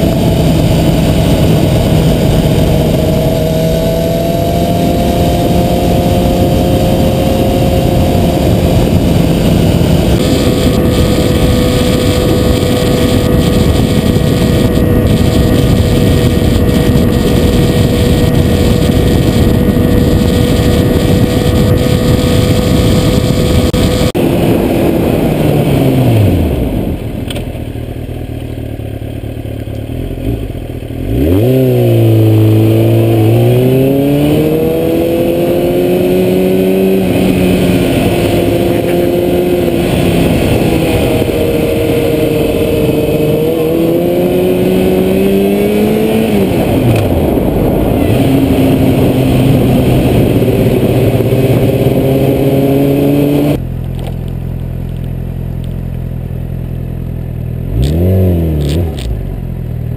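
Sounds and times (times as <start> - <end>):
heavy wind noise: 0.0 - 27.9, 31.2 - 54.3
motorcycle engine revving: 0.0 - 59.9.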